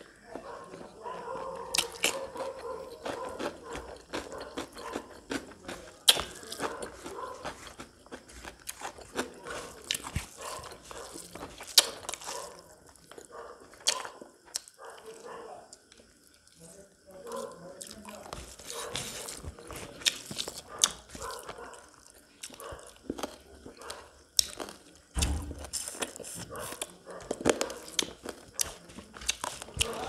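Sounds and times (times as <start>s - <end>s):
man chewing and crunching food: 0.0s - 30.0s.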